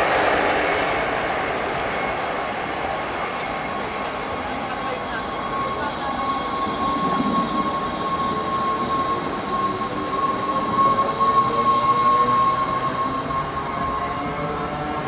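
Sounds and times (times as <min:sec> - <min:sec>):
electric train whine: 0:00.0 - 0:15.0
wheels rumbling on rails: 0:00.0 - 0:15.0.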